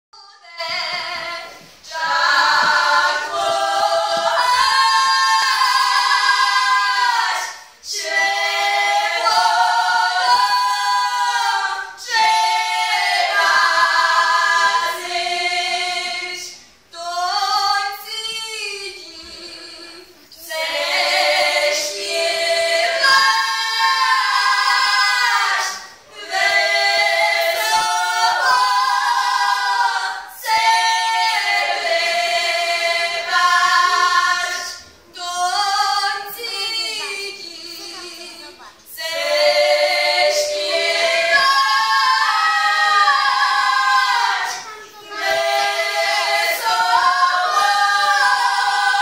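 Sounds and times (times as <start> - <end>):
women singing folk song: 0.2 - 49.0.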